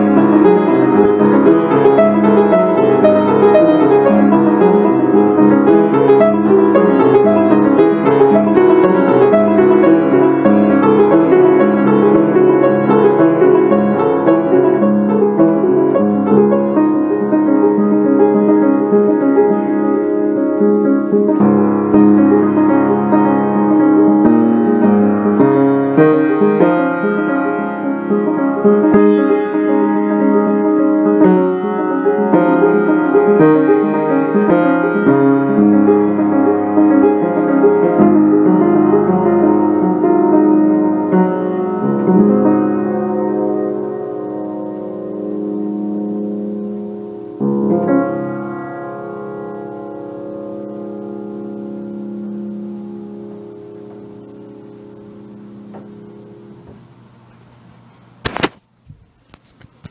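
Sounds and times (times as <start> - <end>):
background piano music: 0.0 - 56.6.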